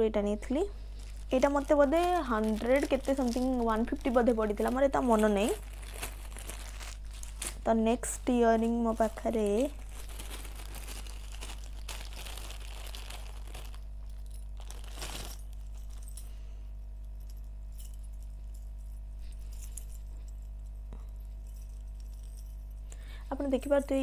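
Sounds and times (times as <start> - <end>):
steady low hum: 0.0 - 24.0
rustling of handled earrings: 0.4 - 16.3, 17.2 - 24.0.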